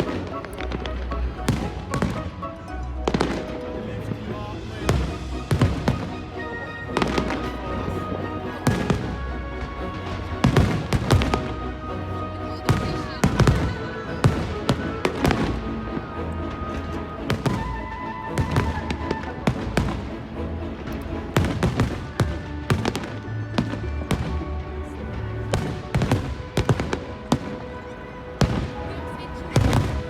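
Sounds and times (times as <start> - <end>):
fireworks bangs: 0.0 - 11.8, 12.5 - 20.4, 21.3 - 24.6, 25.4 - 30.0.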